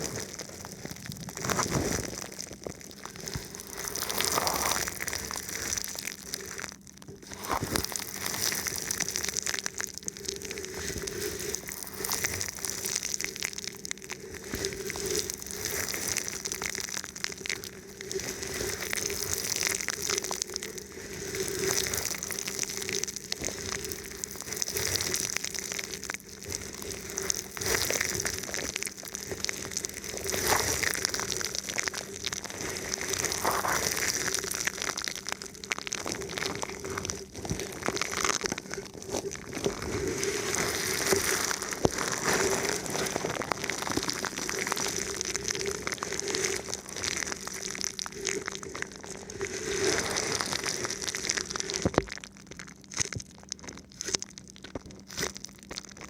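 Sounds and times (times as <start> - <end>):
plastic film crinkling on microphone: 0.0 - 56.0.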